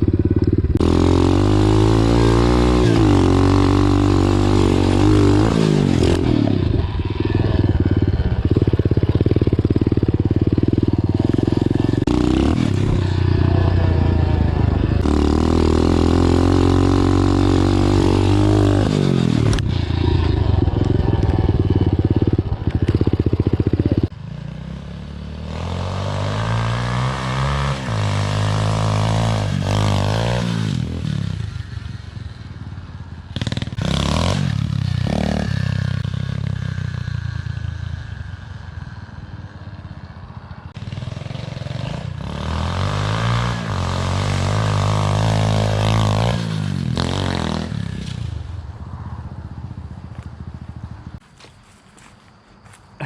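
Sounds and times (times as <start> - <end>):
dirt bike engine revving: 0.0 - 32.1, 33.3 - 39.8, 40.7 - 49.1.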